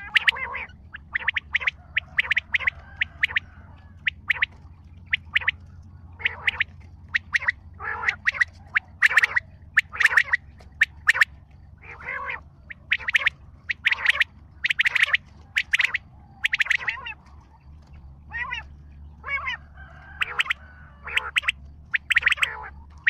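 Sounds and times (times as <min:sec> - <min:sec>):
bird calling: 0:00.0 - 0:23.0.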